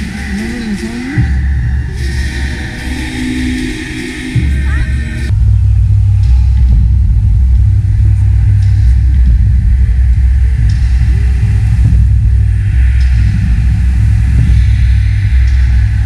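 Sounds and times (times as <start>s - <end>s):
faint wavering voices: 0.0s - 16.0s
loud low bass rumble: 0.0s - 16.0s.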